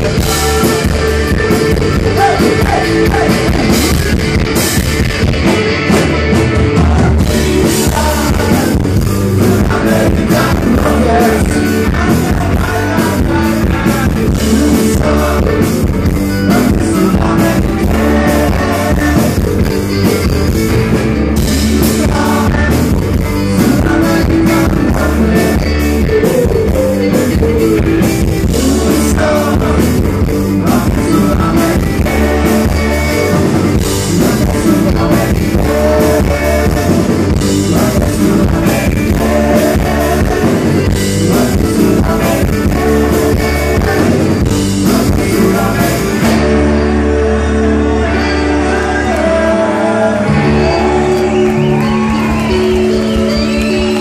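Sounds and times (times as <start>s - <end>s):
person singing: 0.0s - 4.2s, 6.6s - 20.6s, 21.4s - 54.0s
bass guitar: 0.0s - 54.0s
drum kit: 0.0s - 54.0s
electric guitars: 0.0s - 54.0s.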